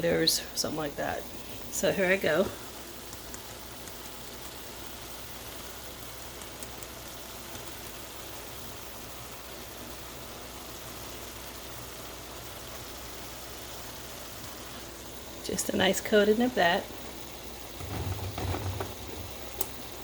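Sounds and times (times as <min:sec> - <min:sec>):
stew cooking hiss: 0:00.0 - 0:20.0.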